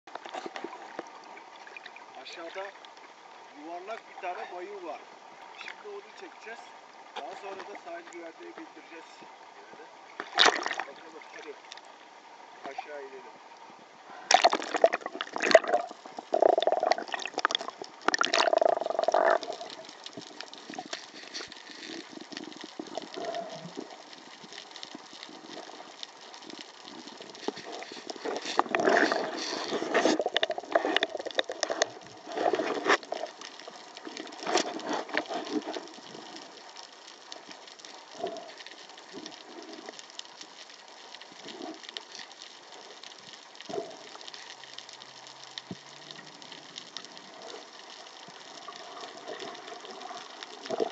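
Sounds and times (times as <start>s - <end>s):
underwater sloshing and bubbling: 0.1s - 50.9s
steady hiss: 0.2s - 50.9s.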